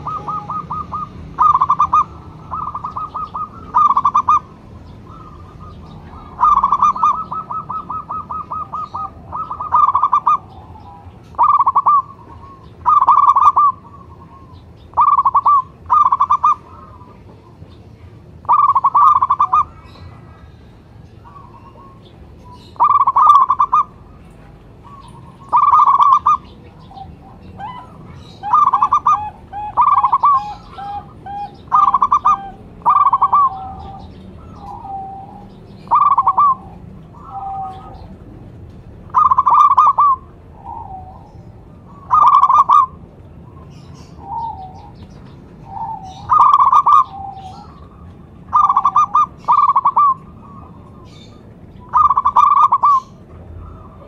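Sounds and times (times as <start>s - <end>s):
dove cooing: 0.0s - 38.3s, 38.9s - 54.0s.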